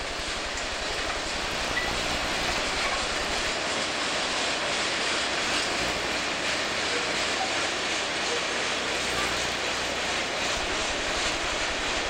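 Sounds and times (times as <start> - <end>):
freight train cars rolling on rails: 0.0 - 12.0.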